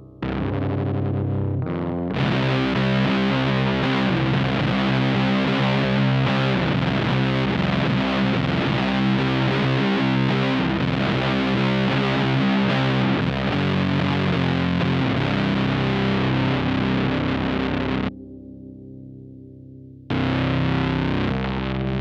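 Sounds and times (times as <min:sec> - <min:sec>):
distorted electric guitar riff: 0:00.0 - 0:19.0, 0:19.8 - 0:22.0.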